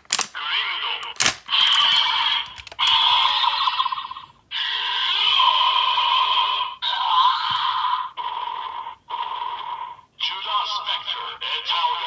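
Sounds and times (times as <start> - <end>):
toy speaker sound effects: 0.3 - 12.0.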